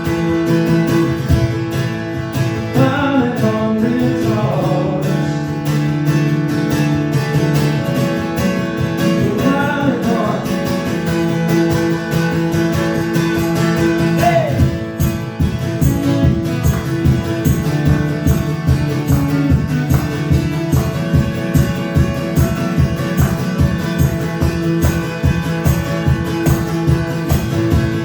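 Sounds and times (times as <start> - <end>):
guitar strumming: 0.0 - 28.0.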